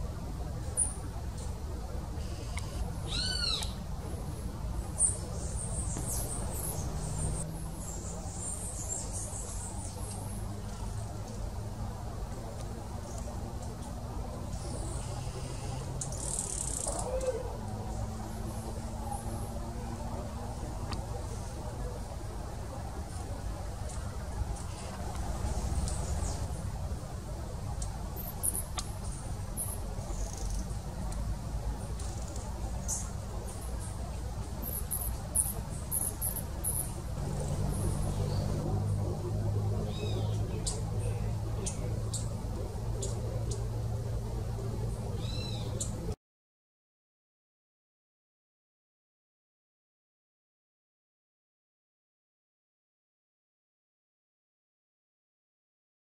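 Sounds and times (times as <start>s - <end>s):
low steady rumble: 0.0s - 46.2s.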